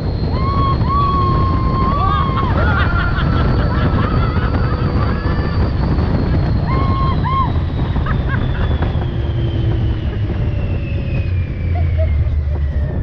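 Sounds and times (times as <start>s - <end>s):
high whine falling in pitch: 0.0s - 13.0s
ride vehicle low rumble: 0.0s - 13.0s
riders whooping: 0.0s - 13.0s
wind rushing over microphone: 0.0s - 13.0s.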